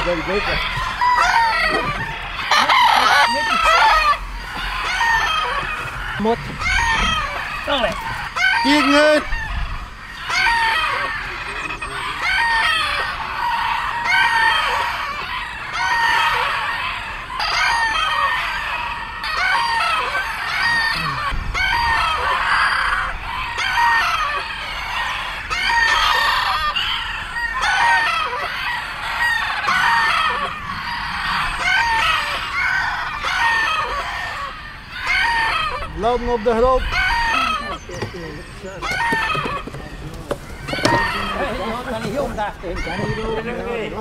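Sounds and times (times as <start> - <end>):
bantam roosters crowing: 0.0 - 44.0.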